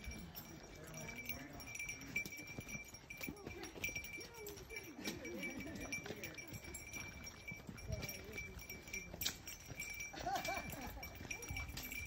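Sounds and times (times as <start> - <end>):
faint distant talking: 0.0 - 12.0
footsteps on dirt trail: 0.0 - 12.0.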